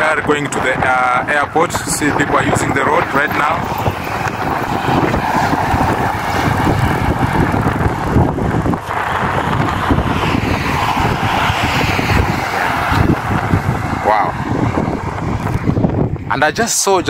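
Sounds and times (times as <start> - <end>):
cars passing: 0.0 - 17.0
wind buffeting microphone: 0.0 - 17.0.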